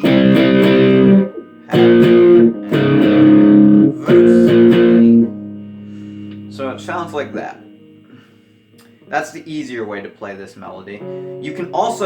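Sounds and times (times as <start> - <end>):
guitar power chords: 0.0 - 12.0.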